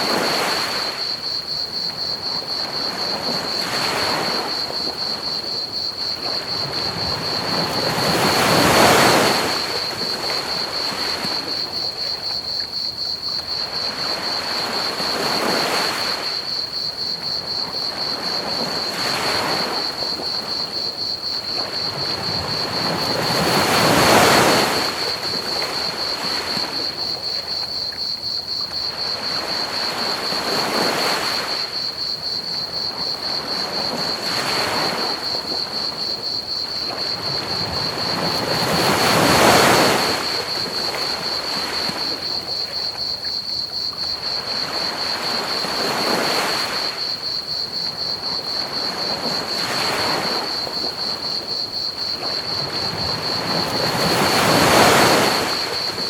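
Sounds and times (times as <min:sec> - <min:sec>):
crickets chirring: 0:00.0 - 0:56.0
ocean waves washing onto beach: 0:00.0 - 0:56.0.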